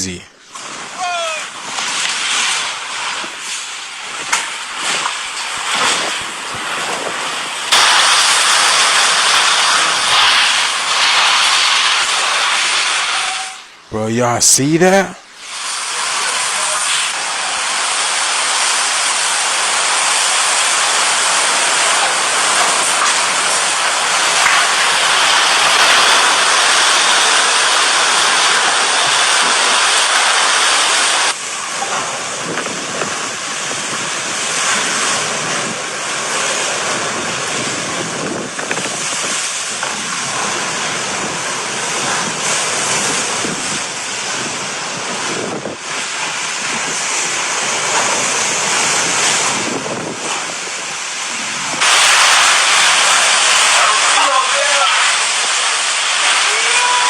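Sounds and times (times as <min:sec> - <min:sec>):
hurricane wind buffeting microphone: 0:00.0 - 0:13.3, 0:13.9 - 0:57.0.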